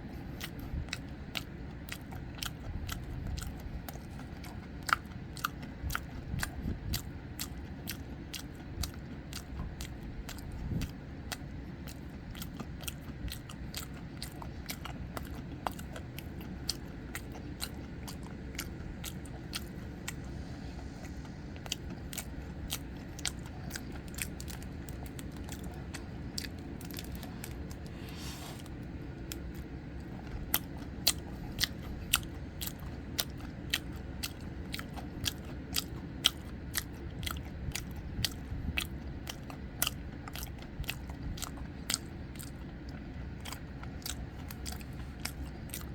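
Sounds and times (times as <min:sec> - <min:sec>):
chewing with wet mouth clicks: 0:00.0 - 0:45.9.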